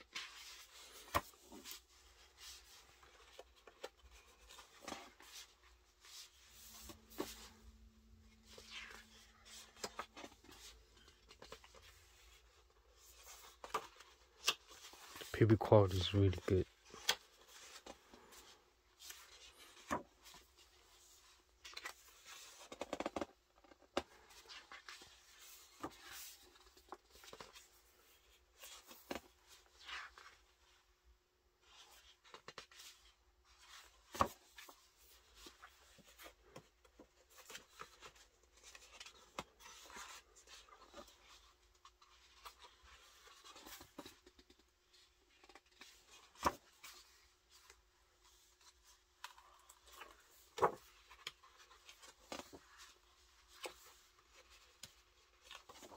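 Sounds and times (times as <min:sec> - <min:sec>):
book pages turning: 0:00.0 - 0:30.4, 0:31.6 - 0:55.9.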